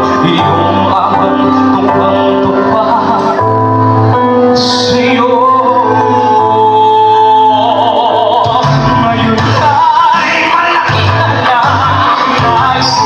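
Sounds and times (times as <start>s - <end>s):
amplified backing music: 0.0s - 13.0s
person singing with vibrato: 0.0s - 13.0s.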